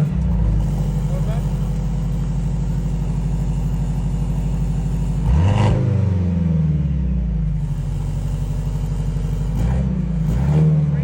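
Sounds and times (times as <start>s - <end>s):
car exhaust idling and revving: 0.0s - 11.0s.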